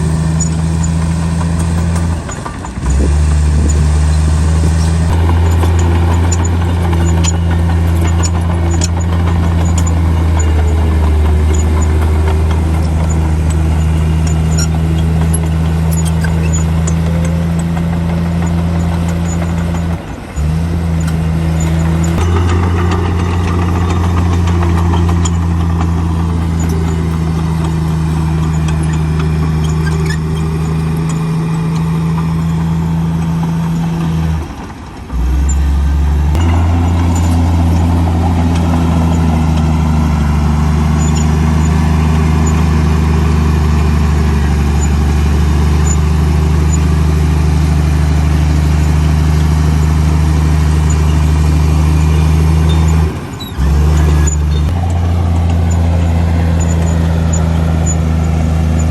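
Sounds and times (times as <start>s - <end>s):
diesel engine droning under load: 0.0s - 58.9s.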